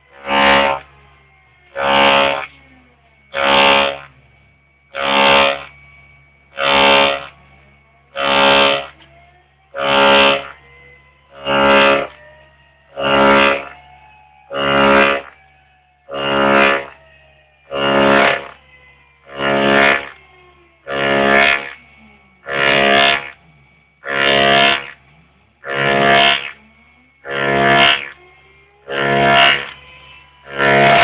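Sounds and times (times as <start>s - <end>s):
low hum: 0.0s - 31.0s
mill cutter buzzing into metal: 0.0s - 31.0s
motor whines: 0.0s - 31.0s.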